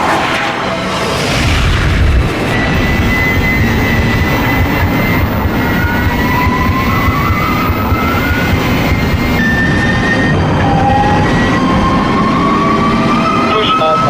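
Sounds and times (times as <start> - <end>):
road and wind noise: 0.0 - 13.5.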